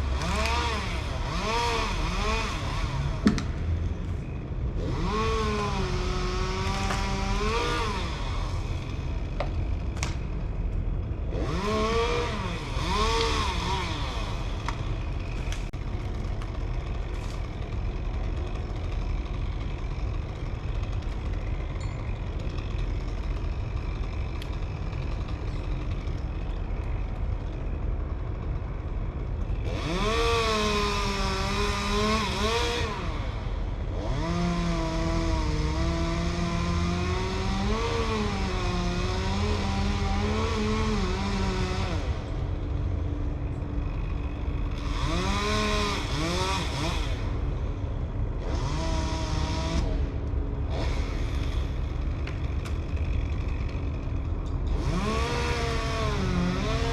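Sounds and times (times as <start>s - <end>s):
chainsaw engine revving: 0.0s - 10.3s, 11.1s - 56.9s
steady engine rumble: 0.0s - 56.9s.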